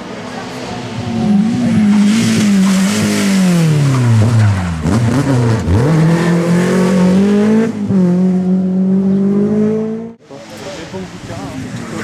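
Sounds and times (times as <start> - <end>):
rally car engine passing: 0.0 - 10.2.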